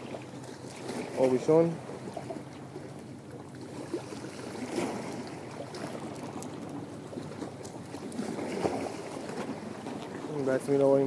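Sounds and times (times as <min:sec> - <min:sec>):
water lapping at shoreline: 0:00.0 - 0:11.0.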